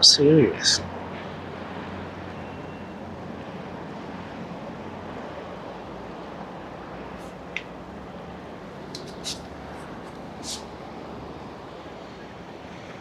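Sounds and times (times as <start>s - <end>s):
distant boat engines rumbling: 0.0s - 13.0s.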